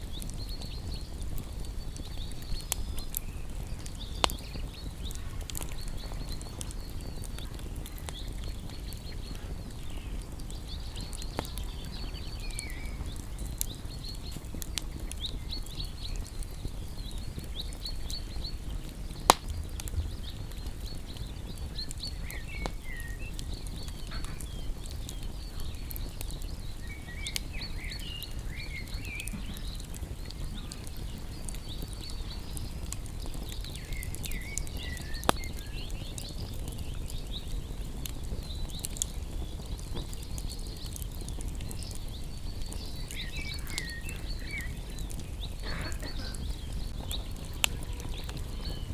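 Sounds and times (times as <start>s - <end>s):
small birds chirping: 0.0s - 48.9s
wood bonfire crackling: 0.0s - 48.9s.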